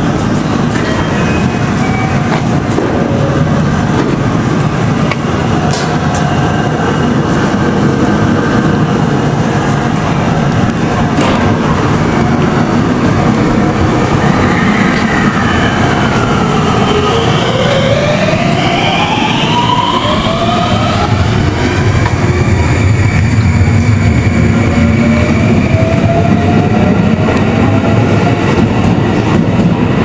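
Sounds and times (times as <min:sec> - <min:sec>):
electric train rumbling: 0:00.0 - 0:30.0.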